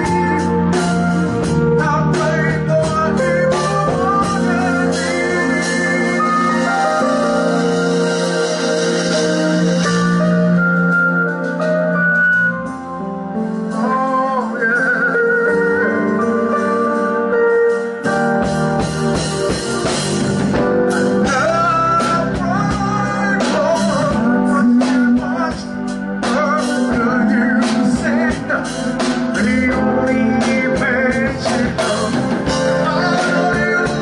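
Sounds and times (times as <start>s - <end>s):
steady drum beat: 0.0s - 11.8s, 18.0s - 34.0s
live band playing blues-rock: 0.0s - 34.0s.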